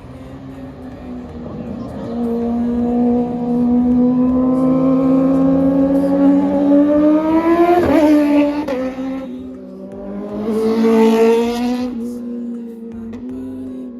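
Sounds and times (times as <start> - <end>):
motorcycle accelerating past: 1.7 - 12.9.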